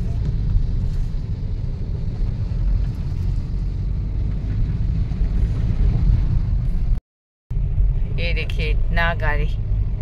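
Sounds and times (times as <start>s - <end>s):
car engine rumble: 0.0s - 10.0s
road noise: 0.0s - 10.0s.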